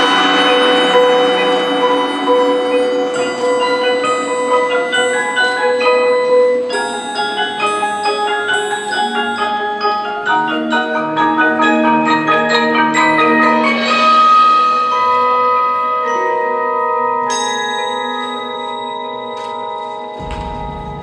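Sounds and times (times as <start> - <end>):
marimbas and vibraphones playing: 0.0 - 21.0.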